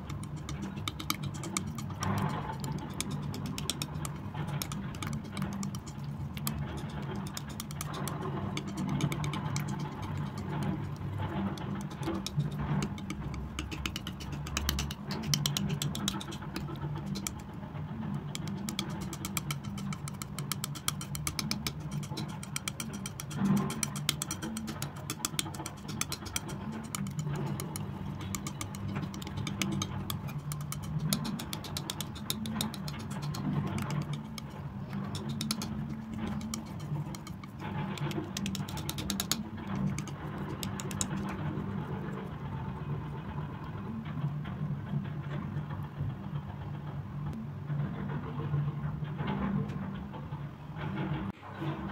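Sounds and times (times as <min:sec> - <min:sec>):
palette knife mixing thick paint: 0:00.0 - 0:42.9
steady low hum: 0:00.0 - 0:51.9.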